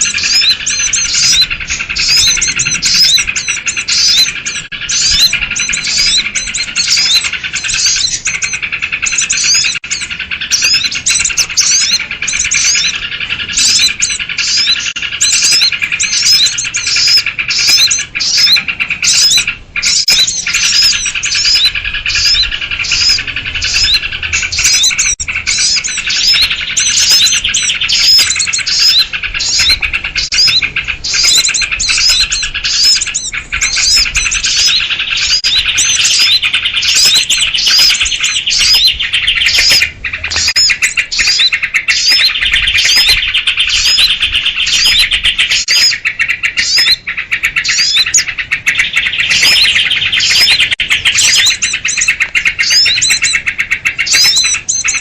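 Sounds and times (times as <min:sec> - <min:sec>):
flock of small birds chattering: 0:00.0 - 0:55.0.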